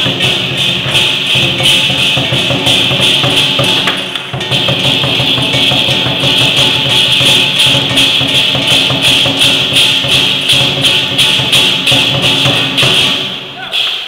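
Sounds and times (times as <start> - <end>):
continuous high ringing: 0.0 - 13.8
steady percussion beat: 0.0 - 14.0.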